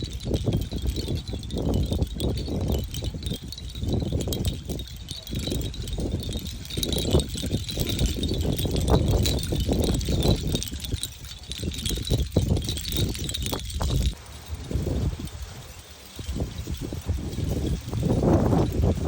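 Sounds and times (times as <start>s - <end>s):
seashell chimes clinking: 0.0s - 19.0s
wind rumbling on microphone: 0.0s - 19.0s.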